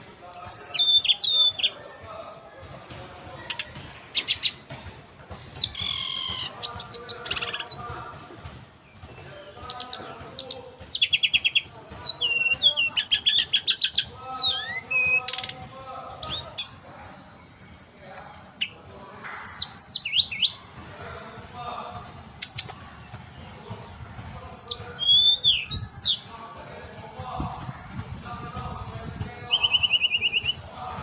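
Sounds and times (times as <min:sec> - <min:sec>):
songbird singing: 0:00.0 - 0:31.0.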